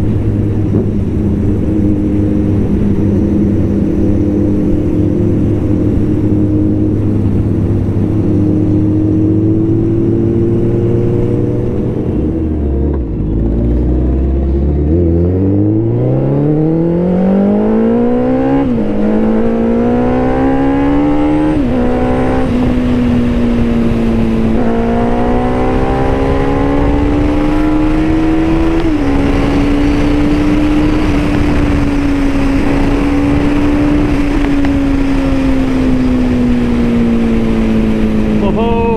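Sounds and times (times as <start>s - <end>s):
motorbike engine accelerating: 0.0s - 38.9s.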